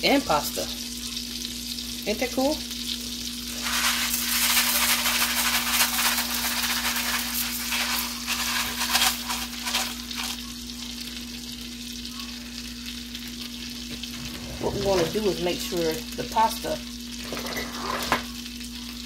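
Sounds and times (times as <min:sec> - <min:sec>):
butter sizzling in a frying pan: 0:00.0 - 0:19.0
rice crackling in hot fat: 0:00.0 - 0:19.0.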